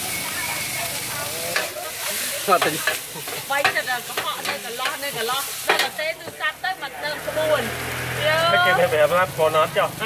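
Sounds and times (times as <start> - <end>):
food sizzling on a pan: 0.0 - 10.0.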